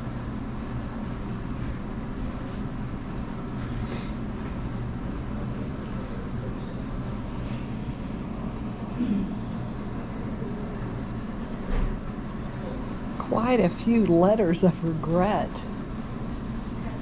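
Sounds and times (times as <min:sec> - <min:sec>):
indoor room rumble with hum: 0:00.0 - 0:17.0.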